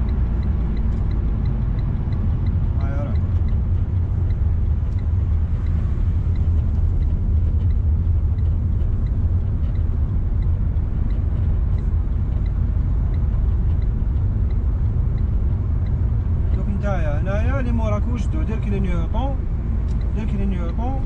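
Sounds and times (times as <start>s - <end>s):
car engine and road rumble: 0.0s - 21.0s
faint even ticking: 0.0s - 21.0s.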